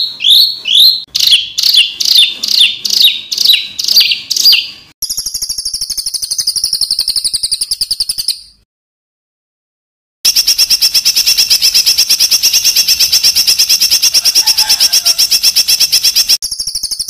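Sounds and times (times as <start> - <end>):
songbird harsh downward notes: 0.0 - 8.0, 10.3 - 16.4
buzzy bird trill: 0.0 - 8.6, 10.3 - 17.0.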